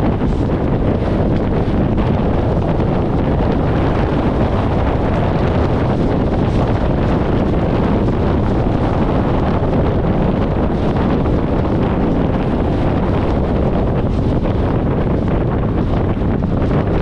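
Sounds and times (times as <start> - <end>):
road and tyre noise: 0.0 - 17.0
wind buffeting microphone: 0.0 - 17.0.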